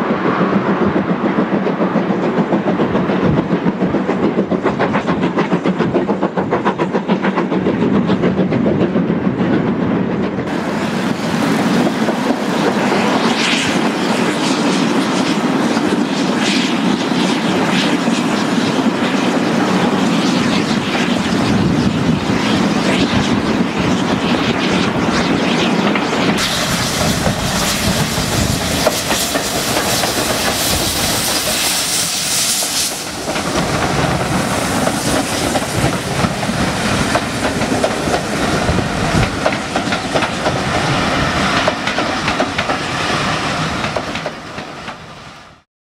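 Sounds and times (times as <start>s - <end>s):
steam train passing: 0.0s - 45.6s
wind: 0.0s - 45.7s.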